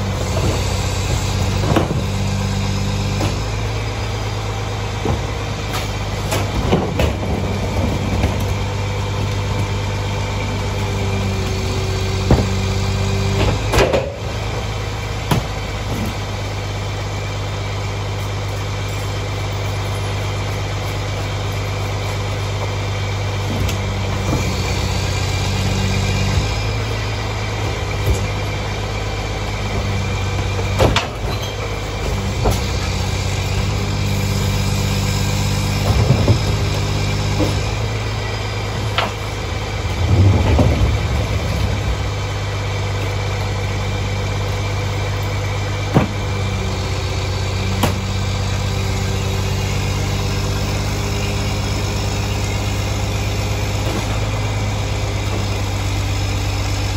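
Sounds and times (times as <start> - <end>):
trash carts banging against hopper: 0.0 - 16.4, 19.6 - 49.2, 49.8 - 56.9
diesel engine idling: 0.0 - 56.9.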